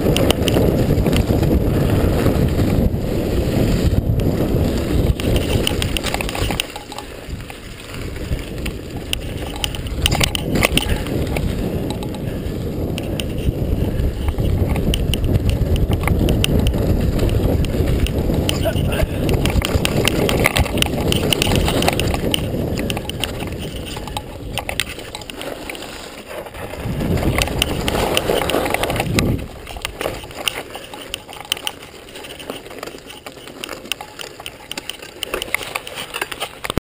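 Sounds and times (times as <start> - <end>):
wind rushing over microphone: 0.0 - 32.4
bike rattling over bumps: 0.0 - 36.8
bike tyres on dirt: 0.0 - 36.8.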